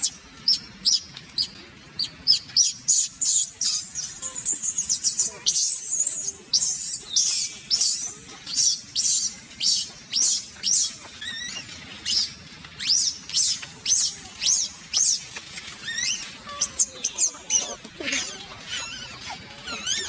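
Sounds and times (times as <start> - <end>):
baby monkey screaming: 0.5 - 15.2, 15.8 - 20.0.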